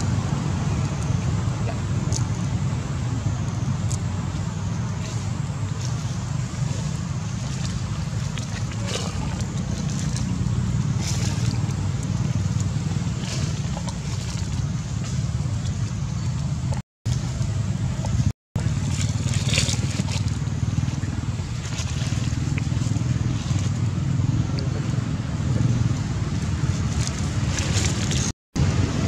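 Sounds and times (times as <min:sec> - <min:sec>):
low engine-like rumble: 0:00.0 - 0:29.0.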